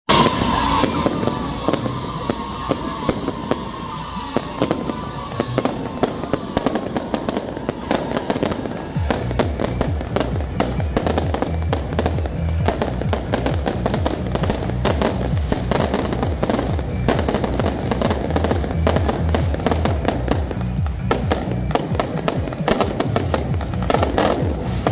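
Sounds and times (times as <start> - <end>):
falling firework whistle: 0.1 - 24.9
fireworks crackling and banging: 0.1 - 24.9
music with heavy low beat: 4.6 - 24.9.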